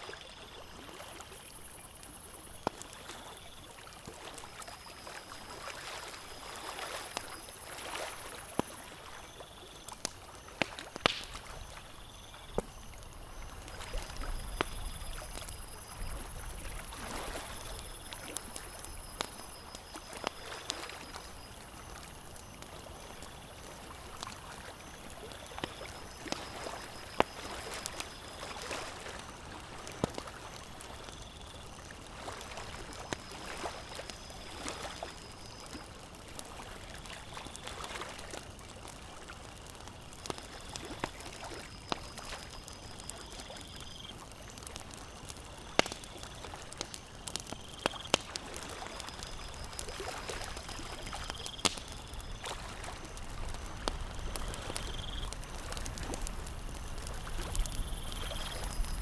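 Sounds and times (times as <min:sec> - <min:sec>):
small waves lapping: 0:00.0 - 0:43.7, 0:44.6 - 0:59.0
campfire crackling and popping: 0:00.8 - 0:59.0.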